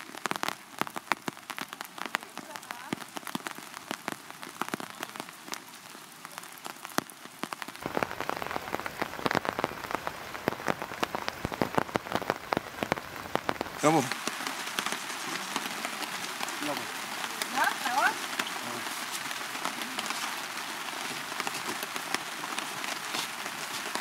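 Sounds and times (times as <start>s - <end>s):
raindrops ticking: 0.0s - 24.0s.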